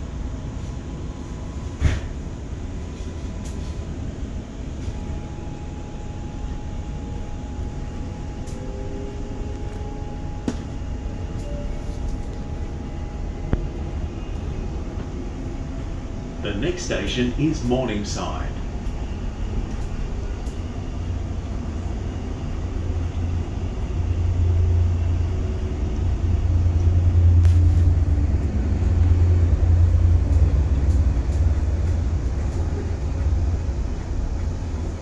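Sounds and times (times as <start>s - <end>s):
faint steady whine: 0.0s - 35.0s
wheels rumbling on track: 0.0s - 35.0s.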